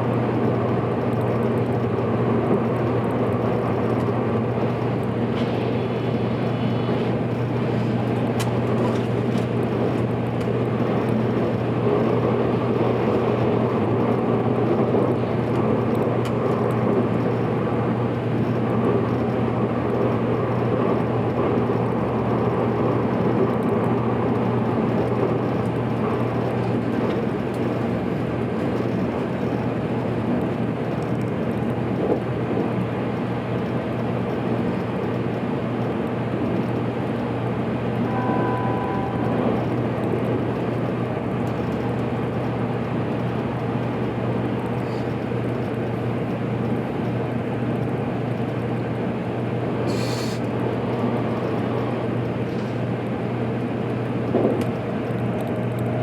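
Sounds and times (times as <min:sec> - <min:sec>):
constant low hum: 0:00.0 - 0:56.0
train running noise rumble: 0:00.0 - 0:56.0.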